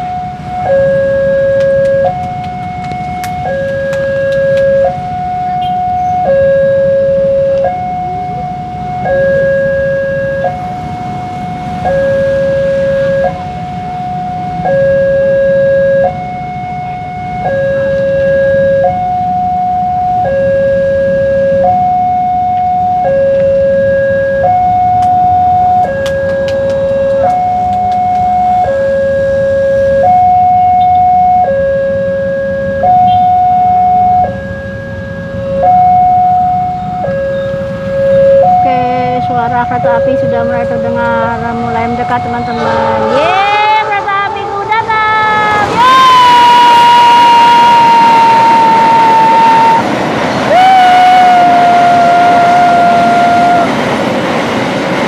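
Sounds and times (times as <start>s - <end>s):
low traffic rumble: 0.0s - 55.0s
two-tone crossing alarm: 0.0s - 55.0s.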